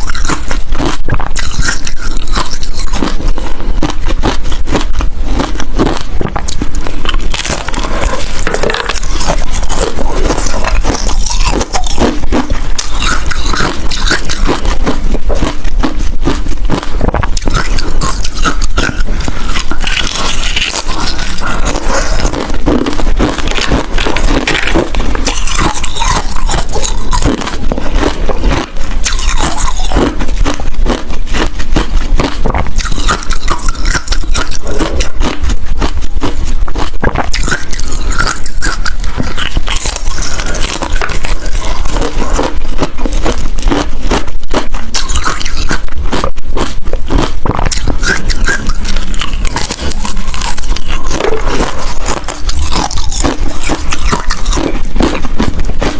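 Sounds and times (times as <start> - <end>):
ice being chewed: 0.0 - 55.9.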